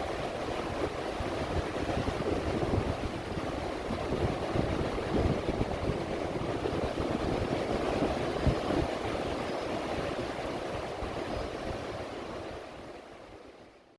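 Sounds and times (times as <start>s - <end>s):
ocean surf against a pier: 0.0s - 13.8s.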